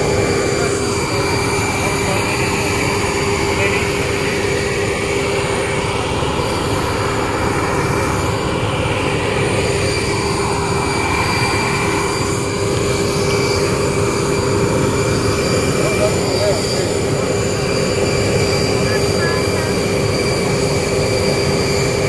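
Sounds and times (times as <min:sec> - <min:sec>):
jet aircraft roar with high whine: 0:00.0 - 0:22.0.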